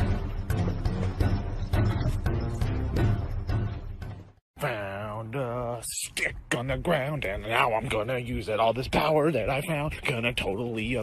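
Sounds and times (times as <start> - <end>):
background music with steady beat: 0.0 - 4.4, 6.0 - 11.0.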